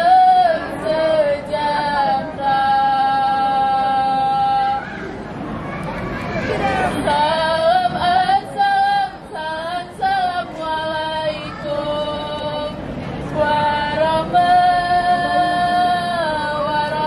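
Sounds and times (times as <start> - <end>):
woman singing: 0.0 - 4.8, 7.0 - 17.0.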